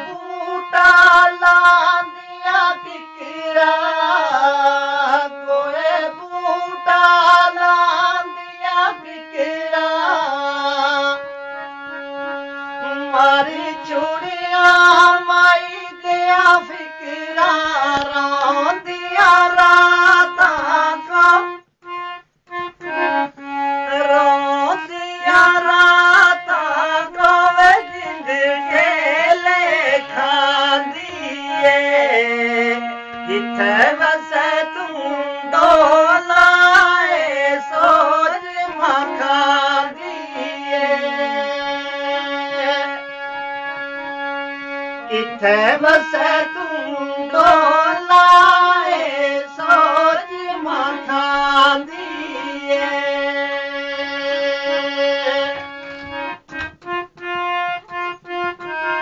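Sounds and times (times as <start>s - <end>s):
harmonium playing melody: 0.0s - 59.0s
person singing folk song: 0.0s - 59.0s.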